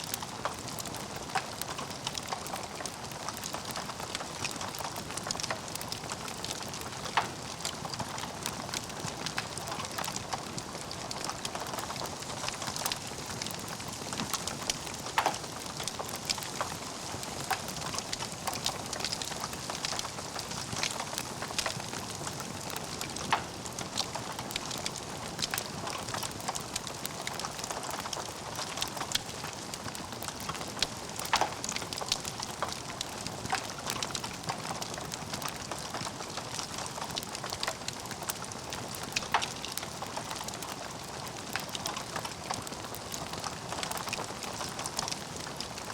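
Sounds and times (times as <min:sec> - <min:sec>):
logs crackling in fire: 0:00.0 - 0:45.9.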